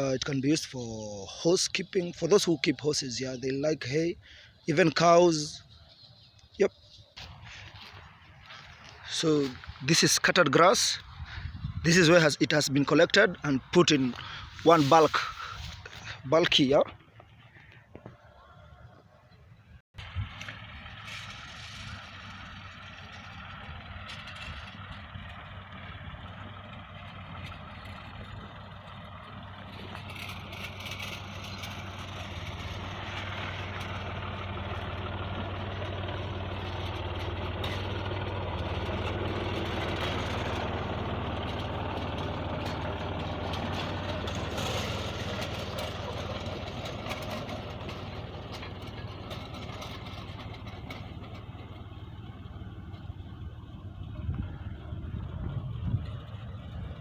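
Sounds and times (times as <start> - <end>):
tractor diesel engine running: 0.0 - 19.1, 19.9 - 57.0.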